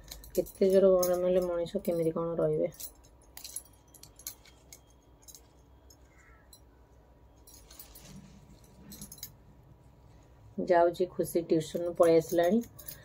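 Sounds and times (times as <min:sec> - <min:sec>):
bangles clinking: 0:00.0 - 0:13.0.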